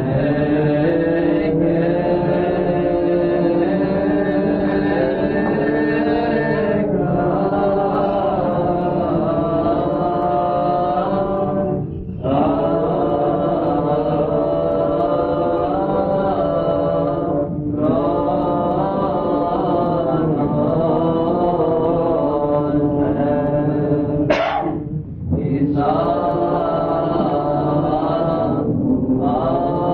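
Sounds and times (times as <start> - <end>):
chant with sustained notes: 0.0 - 29.9.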